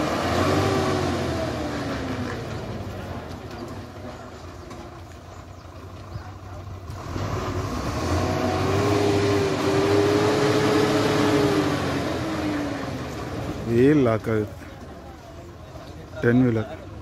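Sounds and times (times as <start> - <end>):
engine whine: 0.0 - 16.1
diesel lorry engine under load: 0.0 - 17.0.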